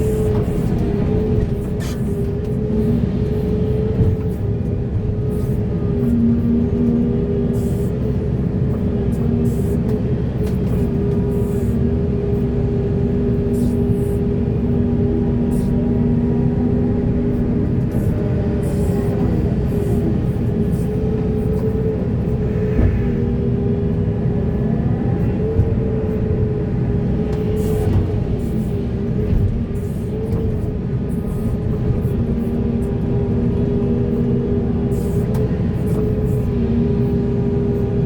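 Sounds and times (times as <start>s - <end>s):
heavy diesel machinery drone: 0.0s - 38.0s.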